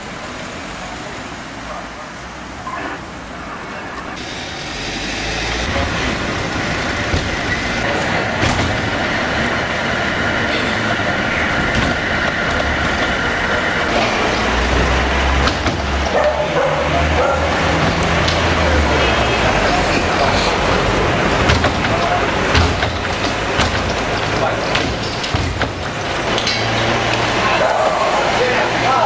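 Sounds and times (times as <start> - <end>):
street noise: 0.0 - 29.0
vehicle passing: 0.0 - 29.0.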